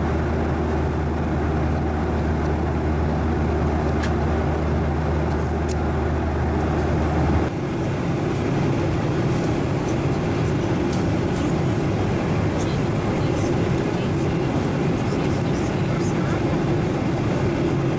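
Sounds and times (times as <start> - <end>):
airplane cabin engine roar: 0.0 - 17.9.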